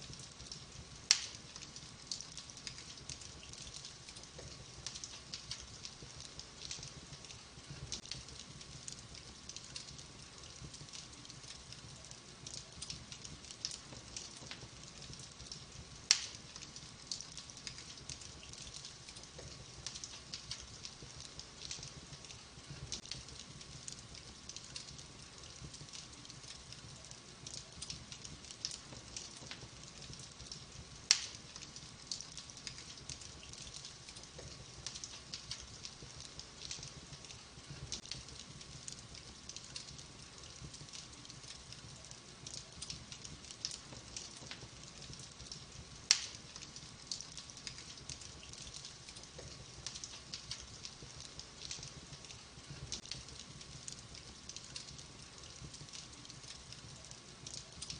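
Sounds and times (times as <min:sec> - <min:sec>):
wood fire crackling: 0:00.0 - 0:57.9
loud sharp pops from fire: 0:00.1 - 0:41.4, 0:42.4 - 0:56.4.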